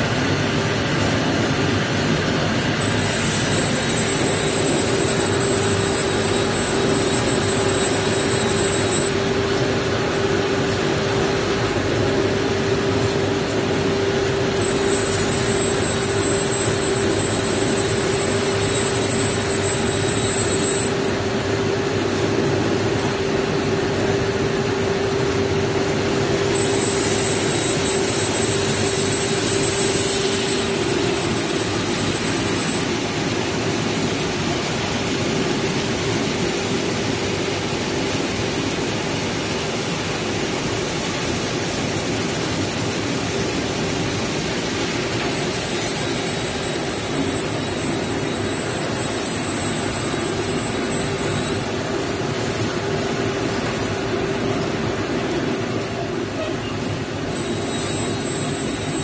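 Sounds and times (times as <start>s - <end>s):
thin high whine: 0.5s - 59.0s.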